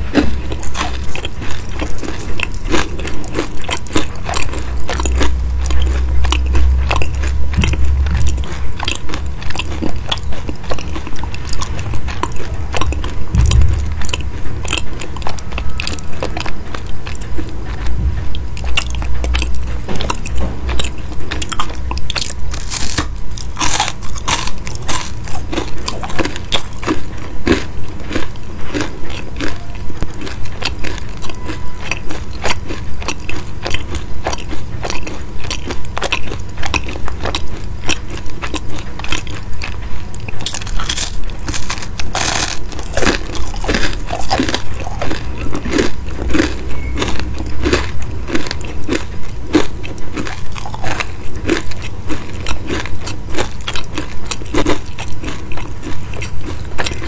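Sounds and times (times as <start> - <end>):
chewing crisp pastry: 0.0 - 57.0.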